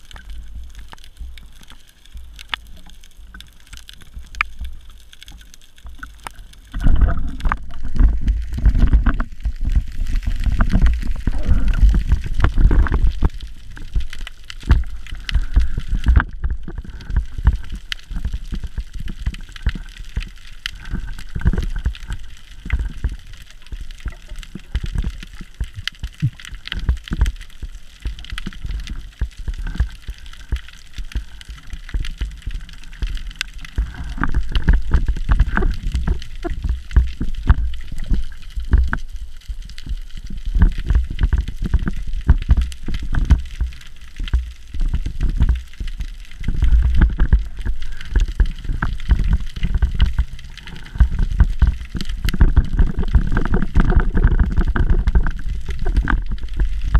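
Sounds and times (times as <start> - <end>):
underwater water rumble and gurgling: 0.0 - 56.9.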